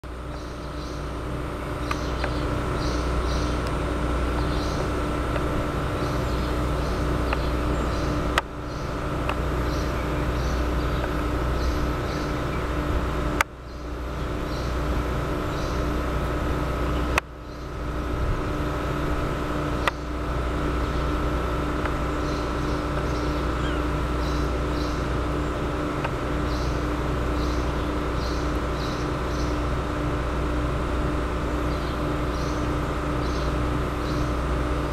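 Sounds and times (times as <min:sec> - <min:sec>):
low background hum: 0:00.0 - 0:34.9.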